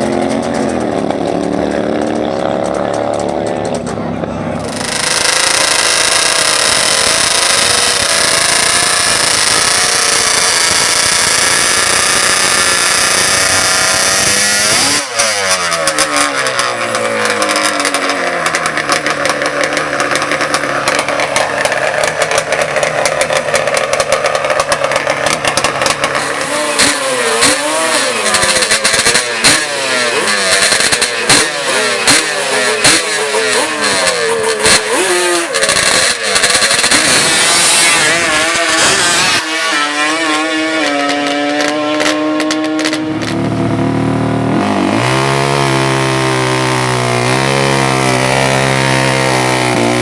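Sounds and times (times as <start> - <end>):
atv engines revving: 0.0 - 50.0.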